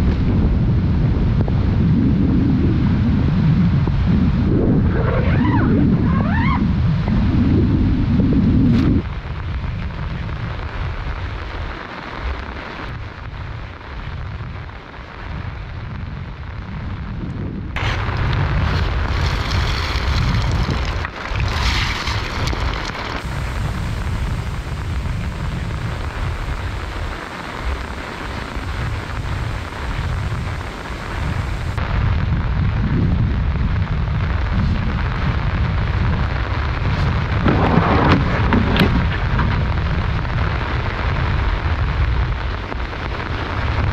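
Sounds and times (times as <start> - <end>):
gusty wind buffeting microphone: 0.0 - 43.9
rain hissing: 0.0 - 43.9.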